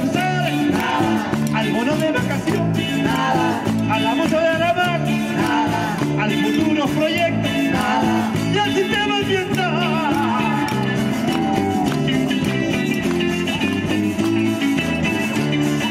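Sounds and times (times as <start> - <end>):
live band with guitars: 0.0 - 15.9.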